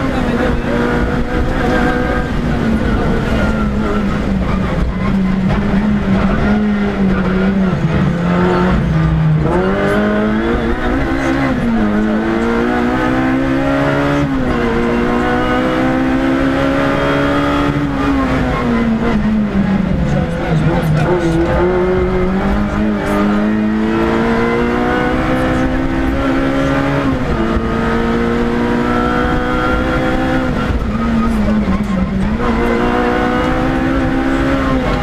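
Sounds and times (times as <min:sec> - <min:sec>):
rally car engine accelerating: 0:00.0 - 0:35.0.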